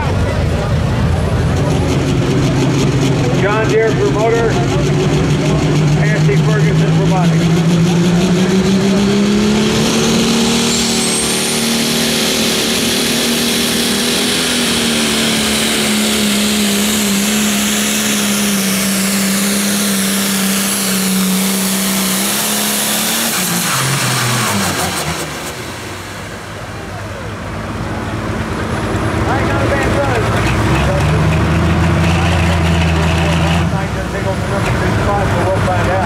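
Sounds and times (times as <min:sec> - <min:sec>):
diesel engine at high revs: 0:00.0 - 0:36.0.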